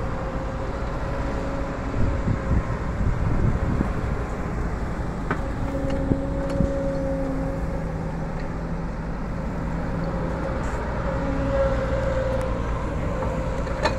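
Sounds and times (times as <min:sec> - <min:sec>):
excavator diesel engine under load: 0:00.0 - 0:13.9.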